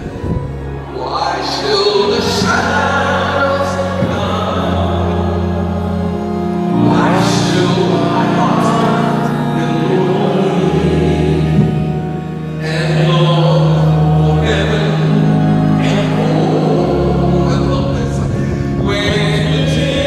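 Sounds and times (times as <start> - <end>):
sustained instrumental chords: 0.0 - 20.0
man singing into a microphone: 0.8 - 6.0, 6.6 - 11.8, 12.4 - 20.0.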